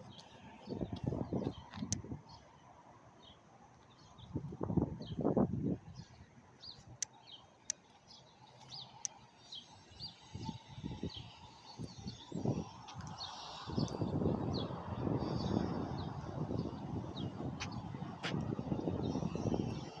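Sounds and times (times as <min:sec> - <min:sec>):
small birds chirping: 0:00.0 - 0:02.6, 0:03.2 - 0:20.0.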